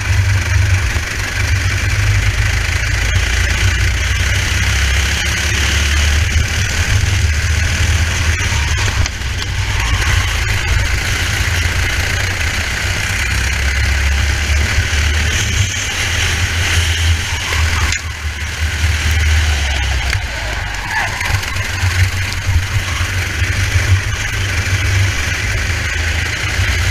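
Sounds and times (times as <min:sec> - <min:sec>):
kart engine running: 0:00.0 - 0:26.9.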